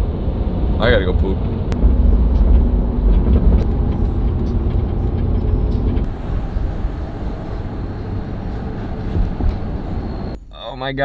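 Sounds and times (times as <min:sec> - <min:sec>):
wind noise: 0:00.0 - 0:10.6
road and engine rumble: 0:00.0 - 0:11.0.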